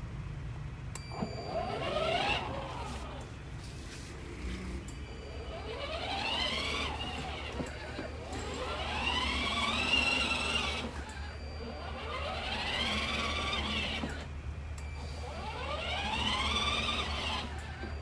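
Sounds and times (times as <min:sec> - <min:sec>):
electric motors whining: 0:01.0 - 0:18.0.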